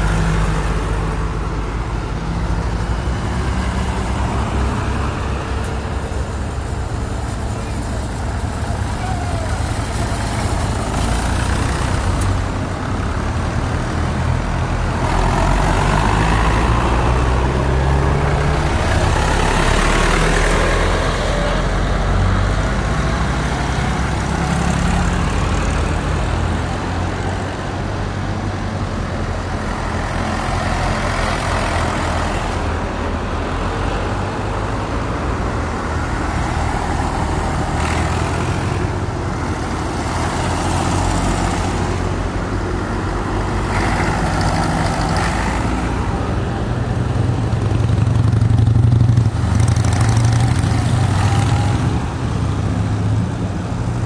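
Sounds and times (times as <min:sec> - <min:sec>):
tractor engines driving past: 0:00.0 - 0:54.0.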